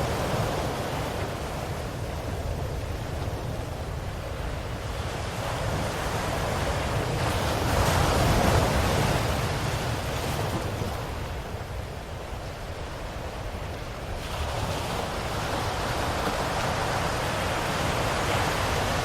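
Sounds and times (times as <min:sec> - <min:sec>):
ocean waves: 0:00.0 - 0:19.0.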